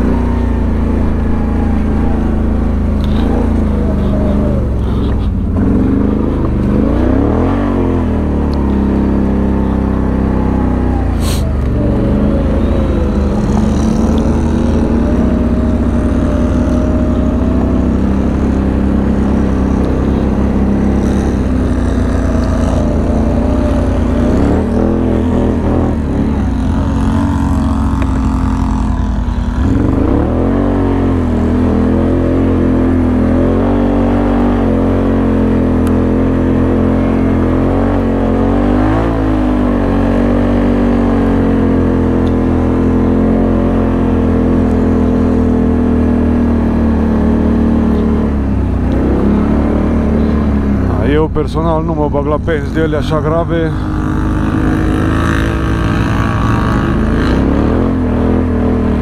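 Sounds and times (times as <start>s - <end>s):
engine revving: 0.0s - 59.0s.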